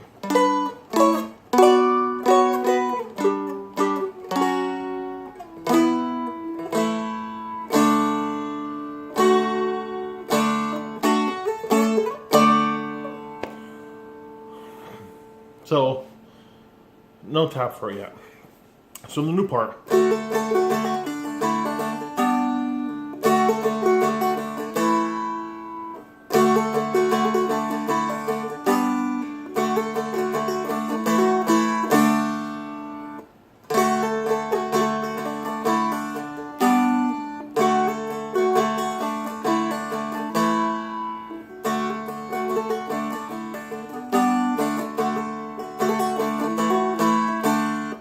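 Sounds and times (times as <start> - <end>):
flatpicked dulcimer jig melody: 0.2 - 14.4, 19.9 - 48.0.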